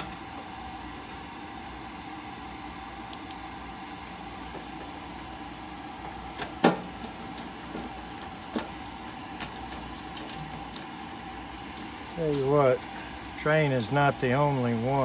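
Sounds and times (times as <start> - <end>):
mechanical hum with thin whine: 0.0 - 15.0.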